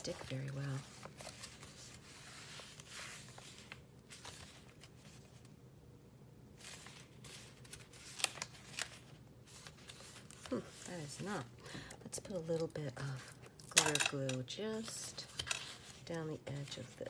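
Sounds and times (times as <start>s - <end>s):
paper rustling: 0.0s - 5.5s, 6.6s - 17.0s.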